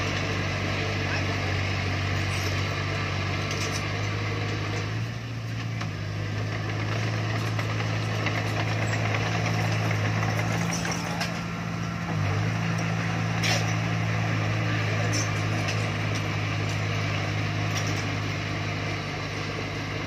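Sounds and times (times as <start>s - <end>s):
heavy machinery diesel engine running: 0.0s - 20.0s.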